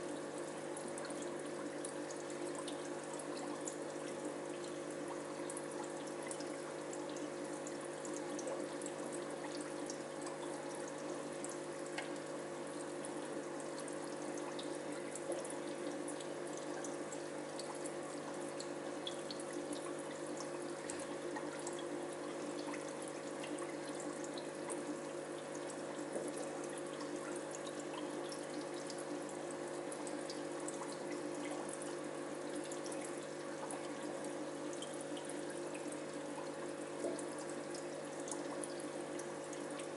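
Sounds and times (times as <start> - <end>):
aquarium filter hum: 0.0 - 39.9
water trickling: 0.0 - 39.9.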